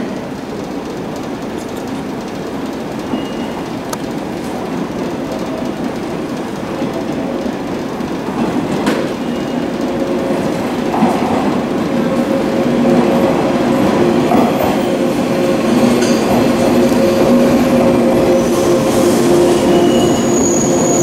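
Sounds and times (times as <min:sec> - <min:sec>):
electric train rolling in: 0:00.0 - 0:21.0.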